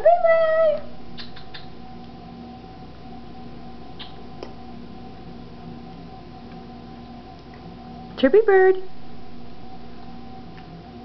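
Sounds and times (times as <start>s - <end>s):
faint high-pitched sounds: 0.0s - 11.0s
steady hum: 0.0s - 11.0s.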